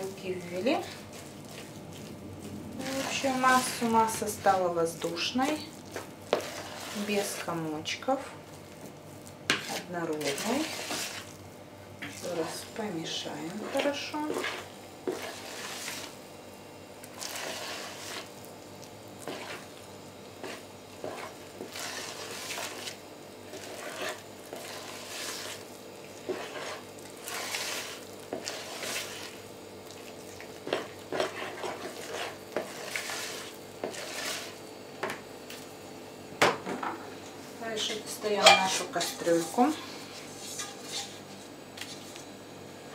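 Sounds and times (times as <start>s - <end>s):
spoon stirring batter in bowl: 0.0s - 11.4s, 12.0s - 16.2s, 17.0s - 35.7s, 37.8s - 42.2s.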